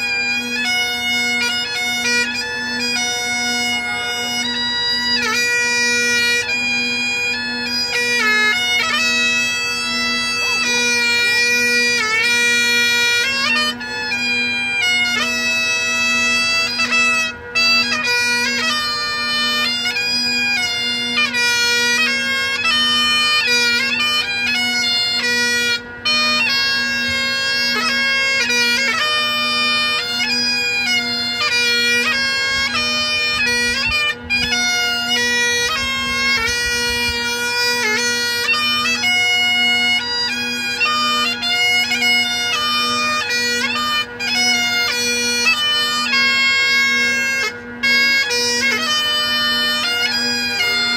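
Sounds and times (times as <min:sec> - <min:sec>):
bagpipes playing slow tune: 0:00.0 - 0:50.9.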